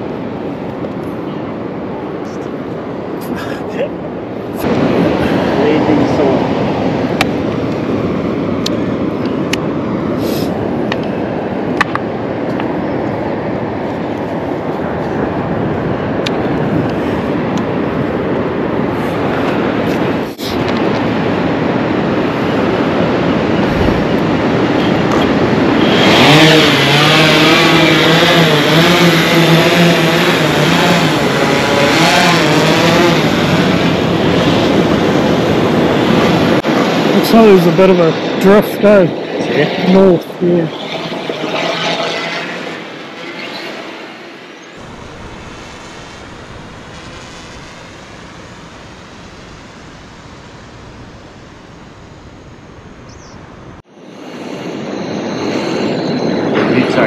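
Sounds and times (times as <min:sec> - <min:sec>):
surf rushing: 0:00.0 - 0:57.0
wind: 0:00.0 - 0:57.0
drone motors buzzing: 0:04.5 - 0:38.2, 0:39.4 - 0:57.0.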